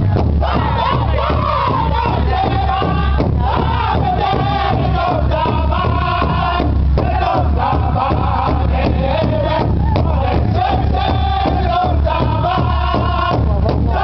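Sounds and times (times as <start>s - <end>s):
large drum beating: 0.0s - 14.0s
men singing in unison: 0.0s - 14.0s.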